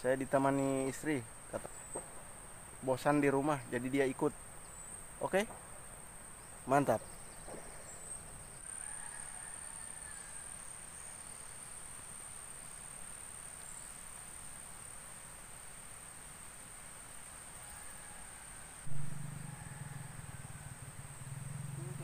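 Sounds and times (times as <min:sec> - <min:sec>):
faint background hiss: 0:00.0 - 0:22.0
insects trilling: 0:00.0 - 0:22.0.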